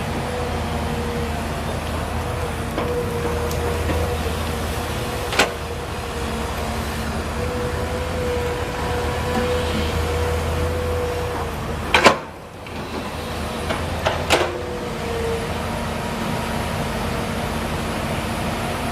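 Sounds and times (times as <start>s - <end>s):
excavator engine whining: 0.0s - 18.9s.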